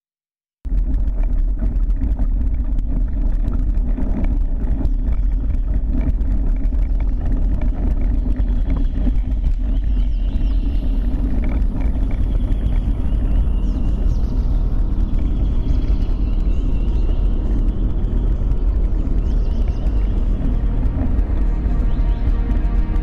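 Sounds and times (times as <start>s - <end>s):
road noise: 0.7s - 23.0s
wind buffeting microphone: 0.7s - 23.0s.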